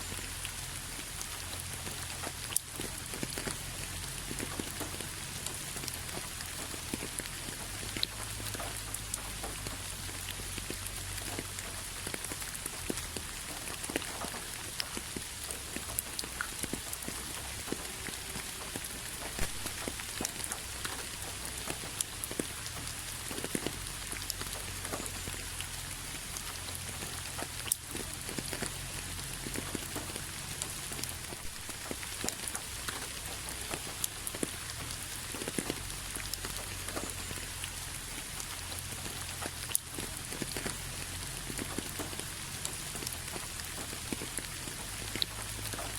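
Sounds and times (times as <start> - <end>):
rain falling: 0.0 - 45.9
raindrops ticking on a surface: 0.0 - 45.9.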